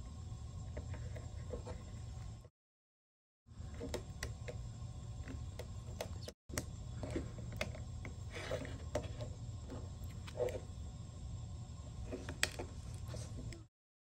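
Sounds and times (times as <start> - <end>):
steady low hum: 0.0 - 2.5, 3.5 - 13.7.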